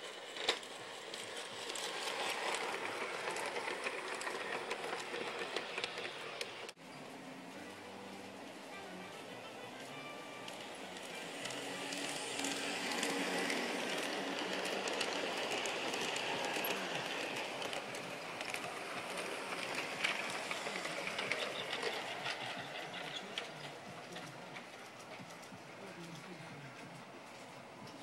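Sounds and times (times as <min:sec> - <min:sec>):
model train rolling rumble: 0:00.0 - 0:06.8, 0:10.6 - 0:26.3
wheels clicking over rail joints: 0:00.0 - 0:06.8, 0:10.6 - 0:26.3.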